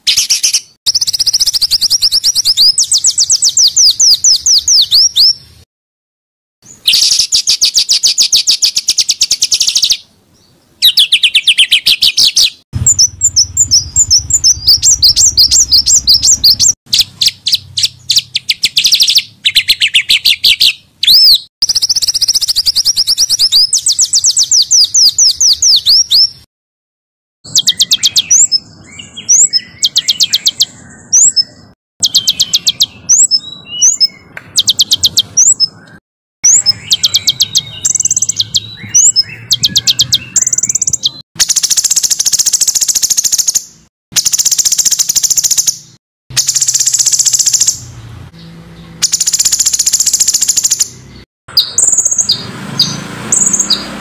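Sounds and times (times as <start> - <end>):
songbirds singing rapid trills: 0.0 - 5.6, 6.6 - 26.5, 27.5 - 54.0.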